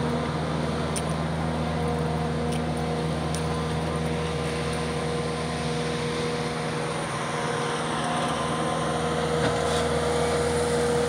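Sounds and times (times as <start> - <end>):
motor humming and whining: 0.0 - 11.0.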